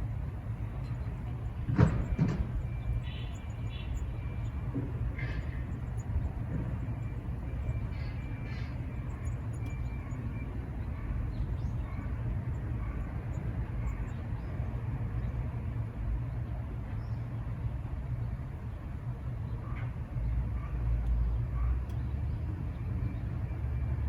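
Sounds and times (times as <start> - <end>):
birds chirping: 0.0 - 23.9
low outdoor rumble: 0.0 - 24.0.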